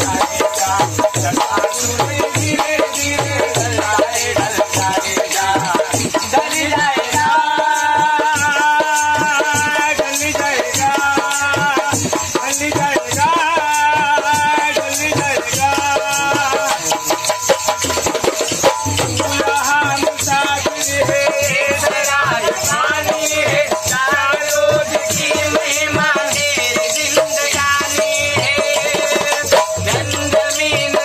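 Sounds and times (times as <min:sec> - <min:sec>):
hand drums beating folk rhythm: 0:00.0 - 0:31.0
voices singing loudly: 0:00.0 - 0:31.0.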